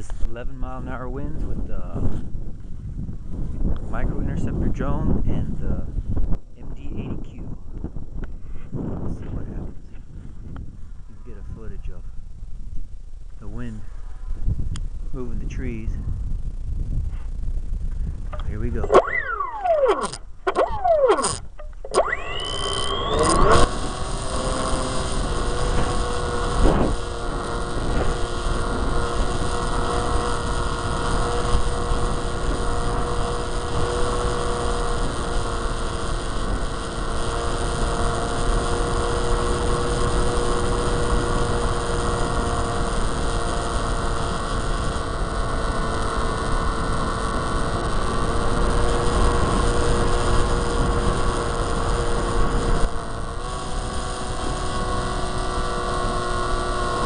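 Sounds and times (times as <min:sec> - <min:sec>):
model plane motor and propeller: 0:00.0 - 0:06.0, 0:06.7 - 0:12.2, 0:13.4 - 0:57.0
wind buffeting microphone: 0:00.0 - 0:57.0.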